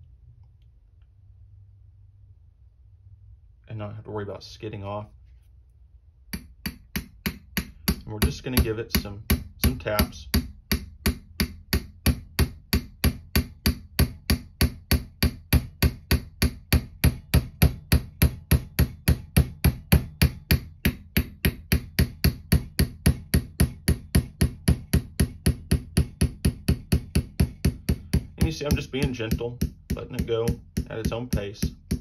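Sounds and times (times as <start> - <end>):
small hammer tapping a punch: 6.3 - 32.0.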